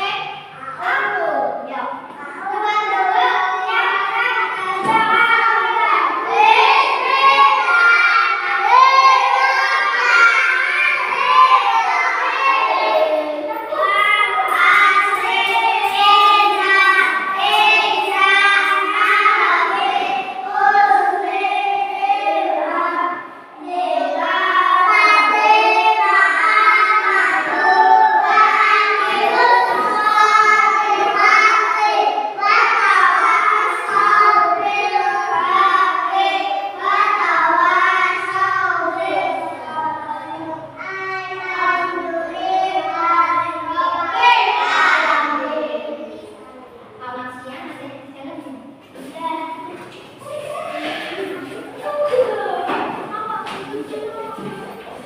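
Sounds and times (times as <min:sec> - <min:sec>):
children singing together: 0:00.0 - 0:47.0, 0:48.9 - 0:55.0.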